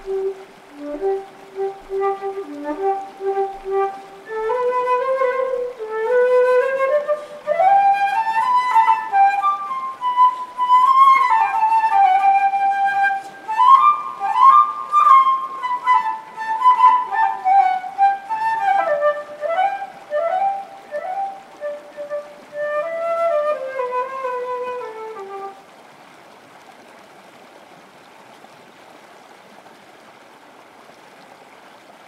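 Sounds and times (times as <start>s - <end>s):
solo flute melody: 0.0s - 25.7s.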